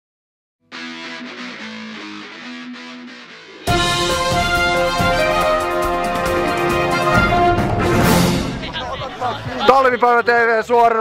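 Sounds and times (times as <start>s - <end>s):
distorted electric guitar music: 0.6s - 9.7s.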